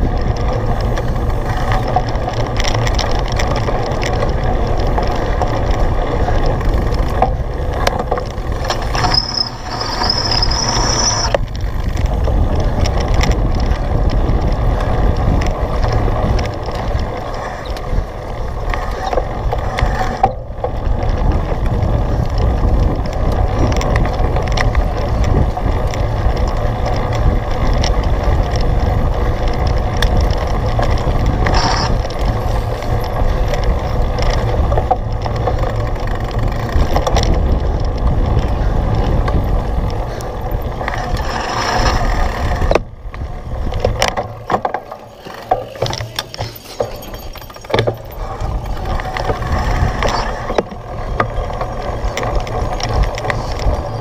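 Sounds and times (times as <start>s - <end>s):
bike frame rattling and clicking: 0.0s - 54.0s
wind and ground rumble: 0.0s - 54.0s.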